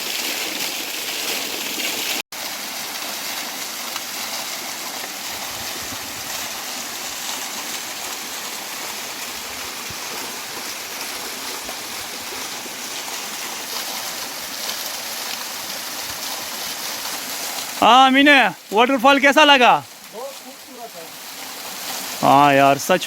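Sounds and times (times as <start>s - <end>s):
waterfall and river rushing: 0.0s - 23.0s.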